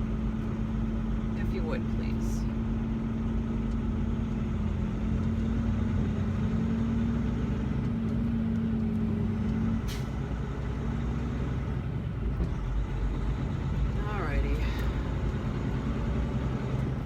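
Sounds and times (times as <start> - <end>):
truck engine drone in cab: 0.0 - 17.0.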